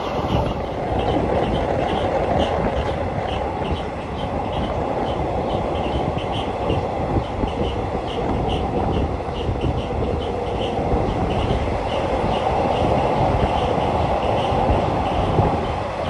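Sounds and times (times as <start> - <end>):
rushing air: 0.0 - 16.0
train wheels rumbling on rail: 0.0 - 16.0.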